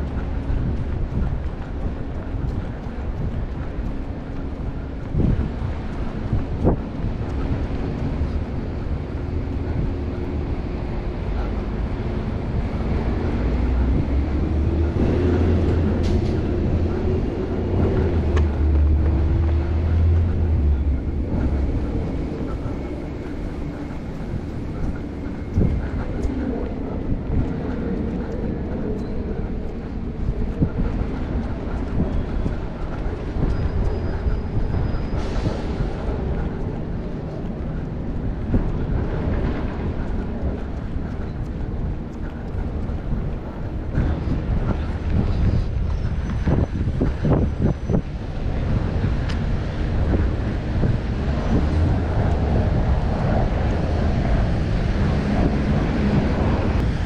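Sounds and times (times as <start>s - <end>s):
heavy vehicle engine rumble: 0.0s - 57.0s
wind buffeting microphone: 0.0s - 57.0s.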